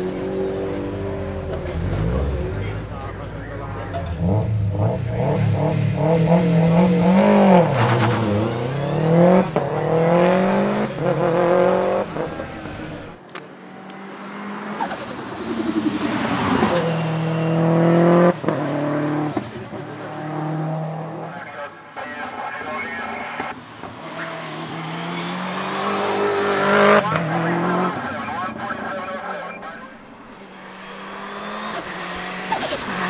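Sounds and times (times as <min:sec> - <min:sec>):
car engine revving through gears: 0:00.0 - 0:21.4, 0:23.4 - 0:28.7, 0:29.6 - 0:33.0.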